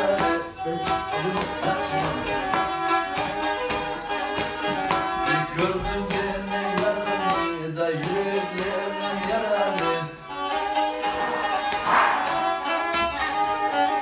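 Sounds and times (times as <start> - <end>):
bowed fiddle playing folk tune: 0.0 - 14.0.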